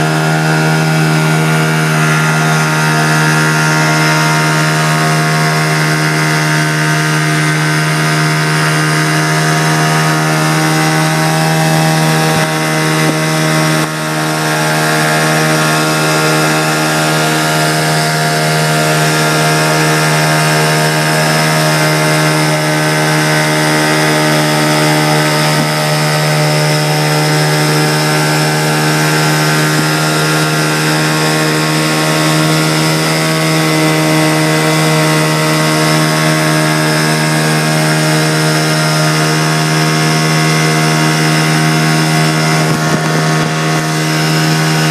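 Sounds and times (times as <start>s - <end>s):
raft motor running: 0.0s - 44.9s.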